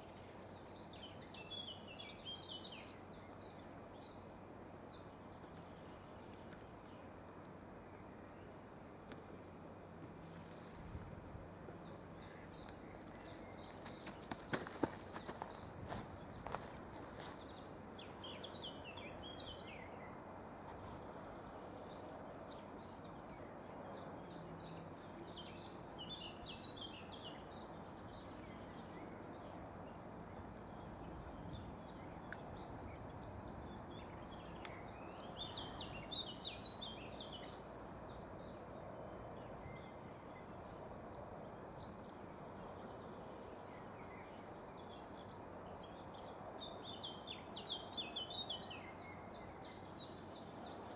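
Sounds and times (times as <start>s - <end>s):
songbirds chirping: 0.0s - 50.9s
steady background hiss: 0.0s - 50.9s.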